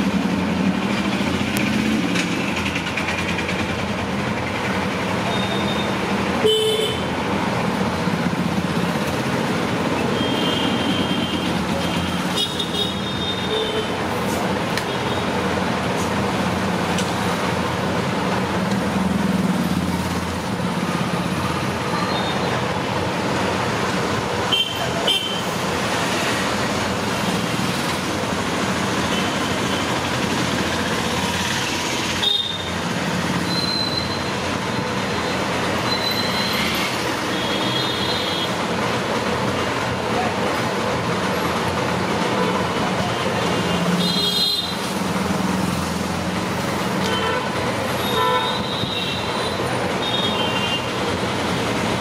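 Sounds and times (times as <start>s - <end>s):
traffic-like background noise: 0.0s - 52.0s.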